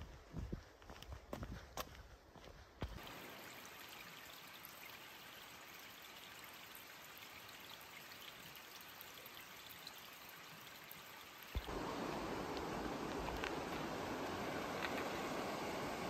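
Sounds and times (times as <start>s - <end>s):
creek trickling over stones: 3.0s - 16.0s.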